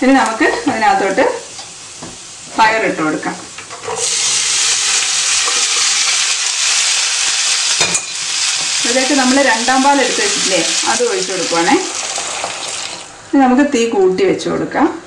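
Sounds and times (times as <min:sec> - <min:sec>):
beans sizzling in hot oil: 0:00.1 - 0:13.2.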